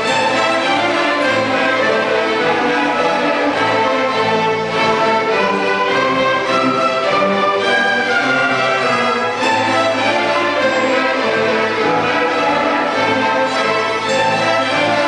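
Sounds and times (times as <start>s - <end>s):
orchestra playing: 0.0s - 15.0s
violins and cellos: 0.0s - 15.0s.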